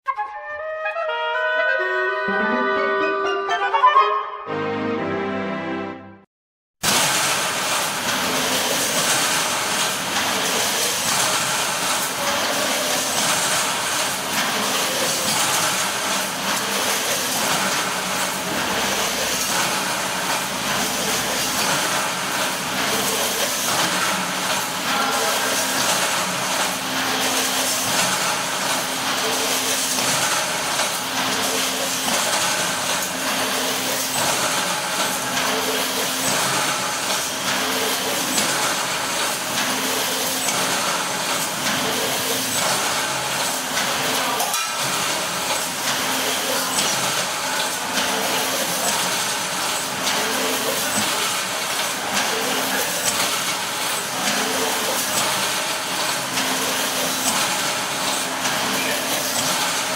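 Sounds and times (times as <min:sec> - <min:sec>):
packaging machine hissing: 0:06.8 - 0:59.9.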